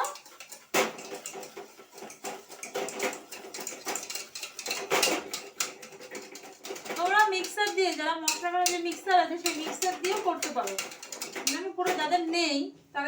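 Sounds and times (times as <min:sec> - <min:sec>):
hand beater whisking in a bowl: 0:00.0 - 0:12.2.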